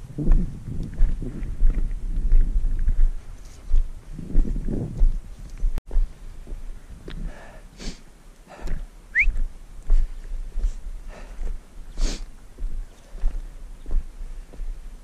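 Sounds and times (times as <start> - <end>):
footsteps on stony ground: 0.0 - 15.0.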